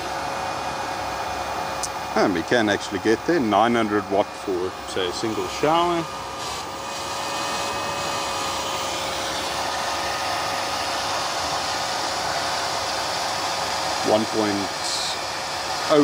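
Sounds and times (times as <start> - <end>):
booster pump humming: 0.0 - 16.0.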